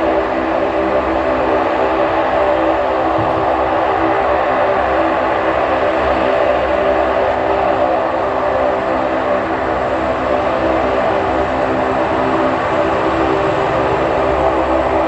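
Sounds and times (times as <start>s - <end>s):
turboprop aircraft drone: 0.0s - 15.0s.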